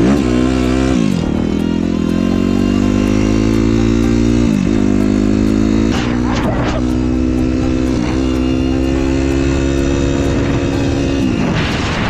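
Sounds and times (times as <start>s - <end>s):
motocross engine running: 0.0s - 12.0s.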